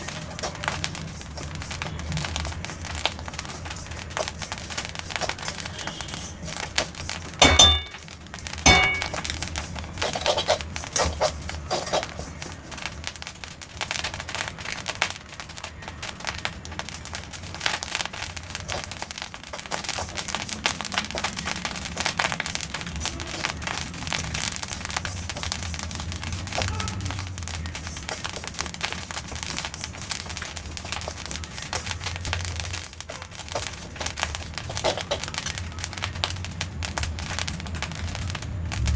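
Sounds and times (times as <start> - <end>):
seeds popping in a pan: 0.0 - 38.9.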